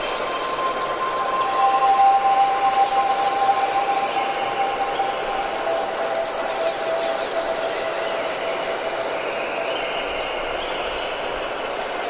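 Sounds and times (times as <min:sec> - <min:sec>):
electronic ambient music: 0:00.0 - 0:12.0.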